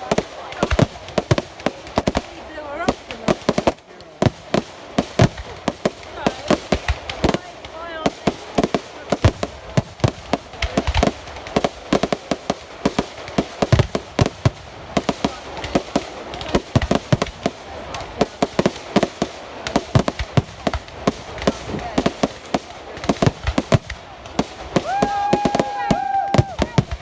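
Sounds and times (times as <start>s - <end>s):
fireworks banging: 0.0s - 27.0s.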